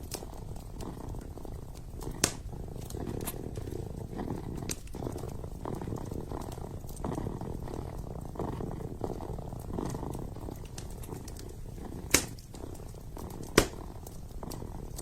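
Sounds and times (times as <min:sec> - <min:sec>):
kitten purring: 0:00.0 - 0:15.0
wood fire crackling: 0:00.0 - 0:15.0.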